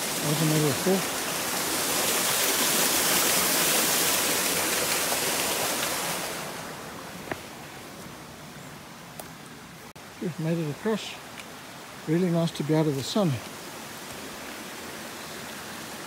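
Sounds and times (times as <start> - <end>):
stream rushing over stones: 0.0 - 16.0.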